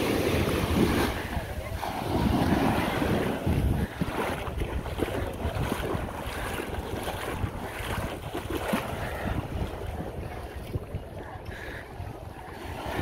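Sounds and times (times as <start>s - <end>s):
waves washing on beach: 0.0s - 13.0s
wind gusting across microphone: 0.0s - 13.0s.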